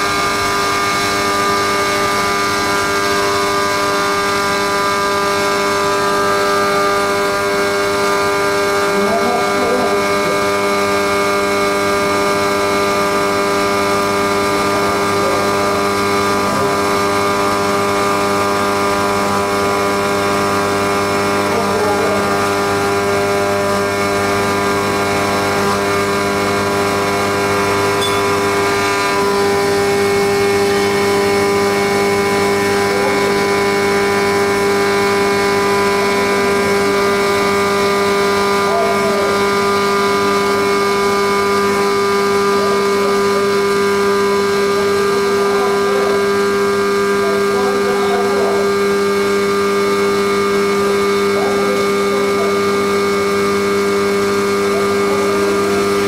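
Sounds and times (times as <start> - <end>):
milling machine whine: 0.0 - 56.0.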